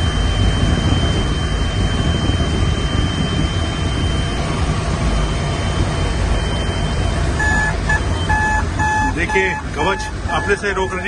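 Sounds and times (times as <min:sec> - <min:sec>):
locomotive rumble on track: 0:00.0 - 0:11.0
thin high whine: 0:00.0 - 0:11.0.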